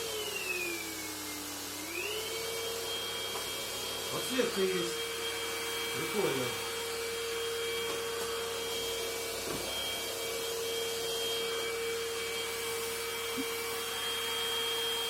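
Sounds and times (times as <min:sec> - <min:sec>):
stick vacuum cleaner running: 0:00.0 - 0:15.0.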